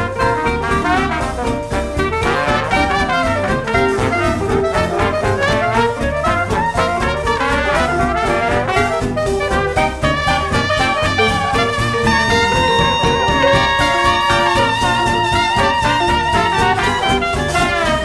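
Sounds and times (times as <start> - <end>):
upbeat jazzy brass music: 0.0 - 18.0.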